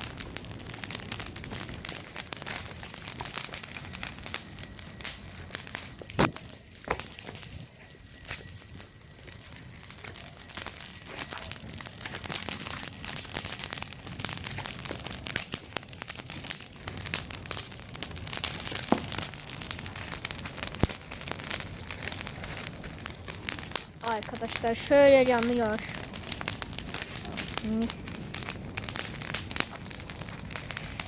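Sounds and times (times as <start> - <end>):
fire popping: 0.0 - 31.0
wood fire crackling: 0.0 - 31.0.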